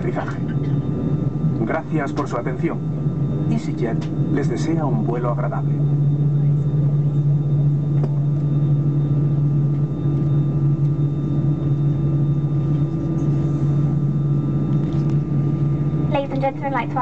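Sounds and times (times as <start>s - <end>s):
airplane cabin hum: 0.0s - 17.0s.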